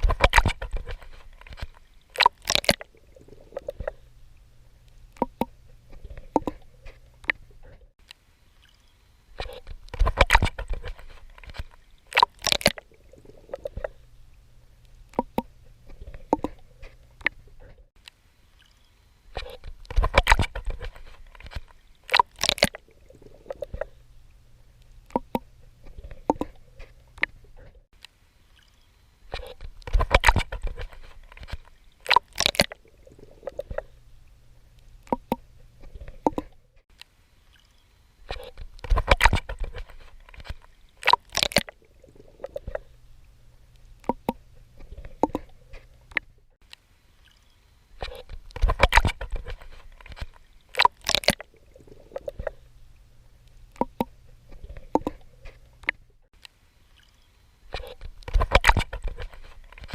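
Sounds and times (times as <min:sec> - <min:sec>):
water splashing from swimming strokes: 0:00.0 - 0:07.7, 0:08.6 - 0:17.7, 0:18.5 - 0:27.6, 0:28.5 - 0:36.6, 0:37.4 - 0:46.4, 0:47.1 - 0:56.0, 0:56.9 - 0:59.9.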